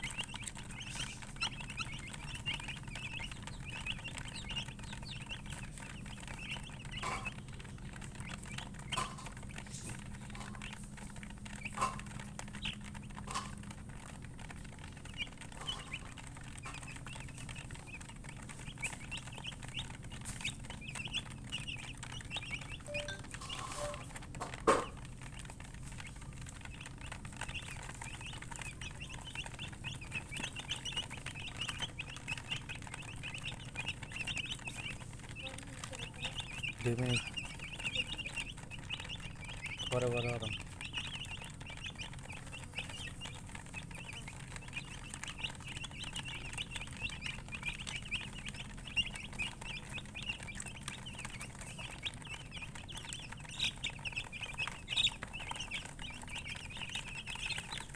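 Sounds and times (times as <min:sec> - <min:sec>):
chickens peeping: 0:00.0 - 0:57.9.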